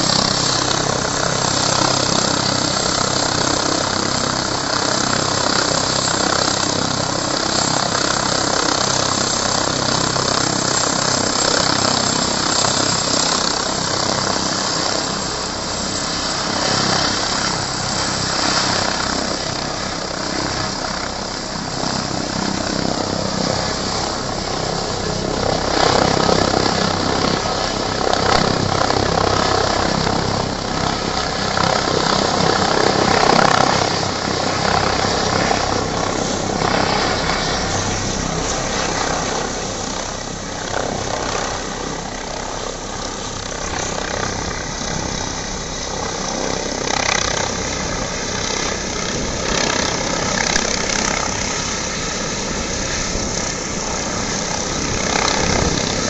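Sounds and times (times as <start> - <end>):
helicopter turbines and rotor: 0.0 - 56.0.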